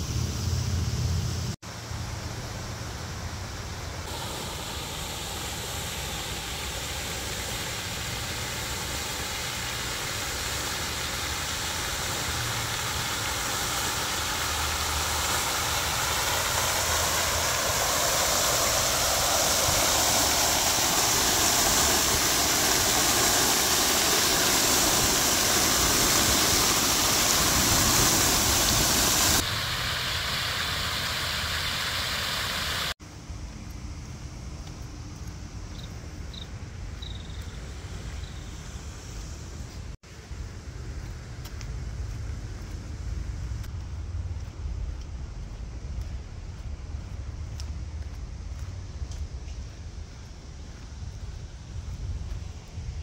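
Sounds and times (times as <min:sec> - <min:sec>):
fountain water splashing: 0:01.7 - 0:33.6, 0:34.4 - 0:53.0.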